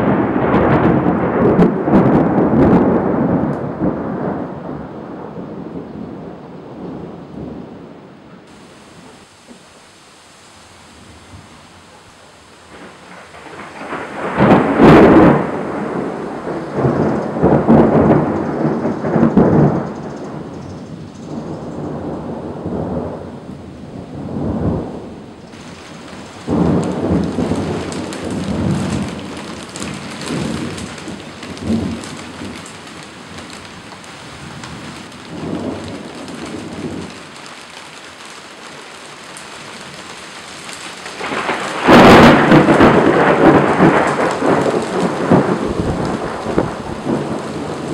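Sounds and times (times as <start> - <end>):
rain falling: 0.0 - 47.9
thunder rumbling: 0.0 - 47.9.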